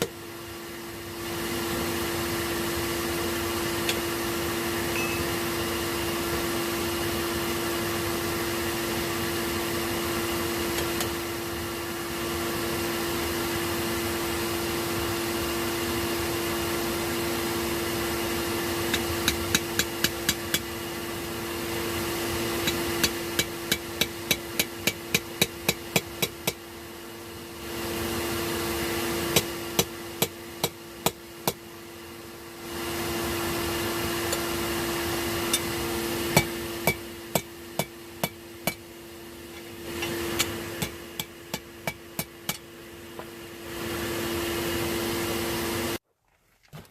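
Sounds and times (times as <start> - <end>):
forge blower humming: 0.0 - 46.0.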